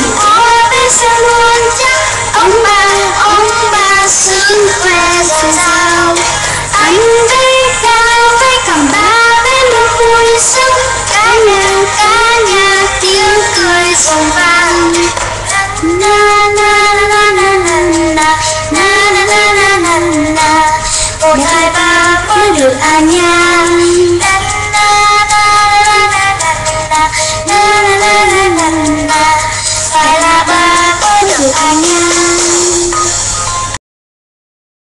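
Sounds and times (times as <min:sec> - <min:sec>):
woman singing a jingle: 0:00.0 - 0:33.2
upbeat pop backing track: 0:00.0 - 0:33.8.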